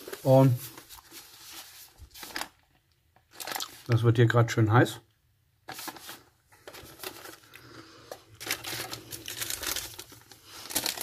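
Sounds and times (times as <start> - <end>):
plastic pouches crinkling: 0.0 - 4.0, 5.7 - 11.0.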